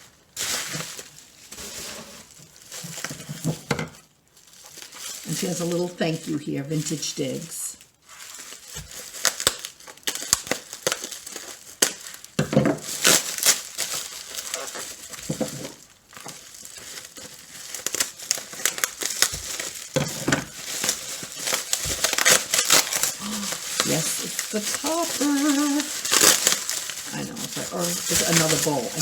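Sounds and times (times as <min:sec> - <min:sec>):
packing material crinkling: 0:00.0 - 0:29.0.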